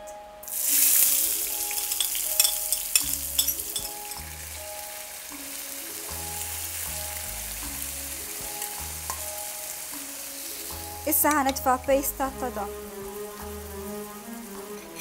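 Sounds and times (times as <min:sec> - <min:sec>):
background music with bass: 0:00.0 - 0:15.0
onions sizzling in oil: 0:00.4 - 0:15.0.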